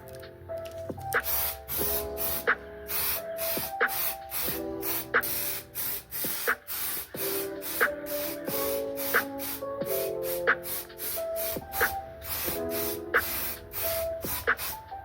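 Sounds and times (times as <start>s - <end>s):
lo-fi hip hop music: 0.0s - 15.0s.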